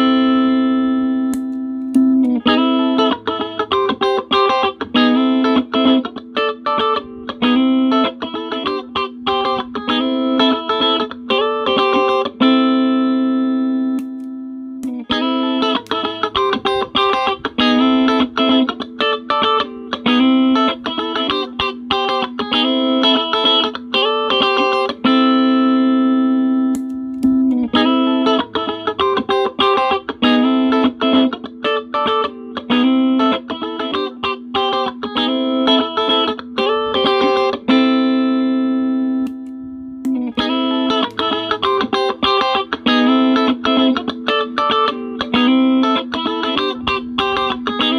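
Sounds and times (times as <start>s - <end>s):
electric guitar single-note phrases: 0.0s - 47.9s.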